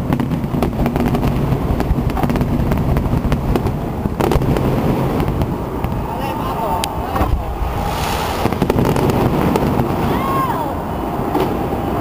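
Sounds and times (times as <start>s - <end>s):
fireworks bangs and crackles: 0.0s - 12.0s
low rumble: 1.9s - 11.8s.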